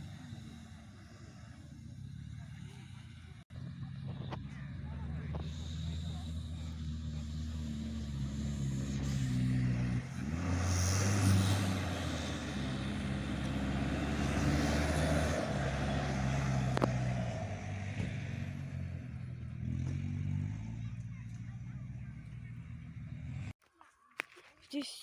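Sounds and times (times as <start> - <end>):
small motorbike engine: 0.0 - 23.6.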